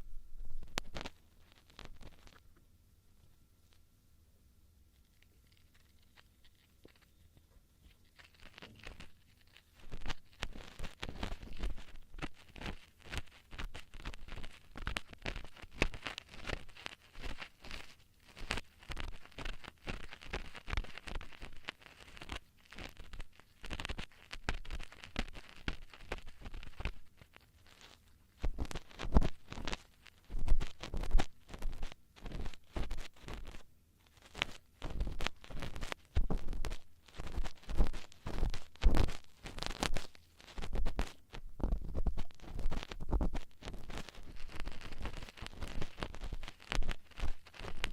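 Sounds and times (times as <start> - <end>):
ear-cleaning tools scratching microphone: 8.2 - 47.9.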